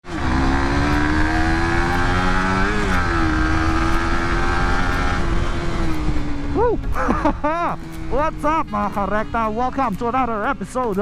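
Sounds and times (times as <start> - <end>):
motorcycle engine at high revs: 0.0 - 10.2
road and wind noise: 0.0 - 11.0.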